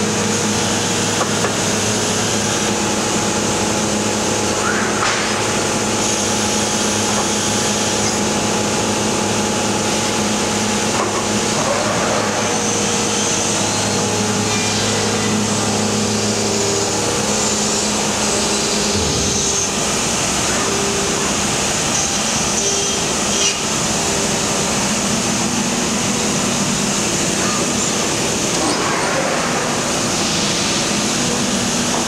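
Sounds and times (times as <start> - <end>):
machine hum over hiss: 0.0 - 32.0.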